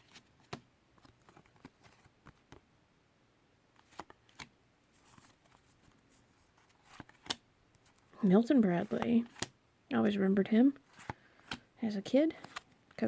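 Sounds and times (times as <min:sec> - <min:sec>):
cards rustling and clicking: 0:00.0 - 0:02.6, 0:03.8 - 0:09.6, 0:10.8 - 0:13.0.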